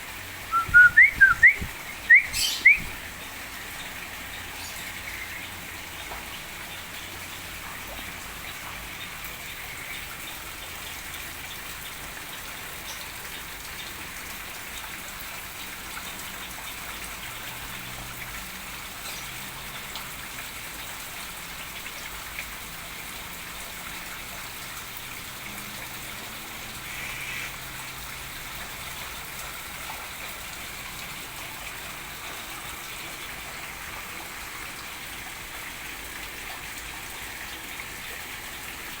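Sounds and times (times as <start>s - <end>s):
falling water hiss and patter: 0.0s - 39.0s.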